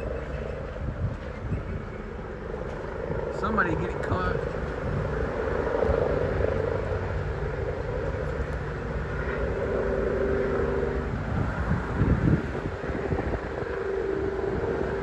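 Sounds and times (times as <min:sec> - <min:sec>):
helicopter flying low overhead: 0:00.0 - 0:15.0.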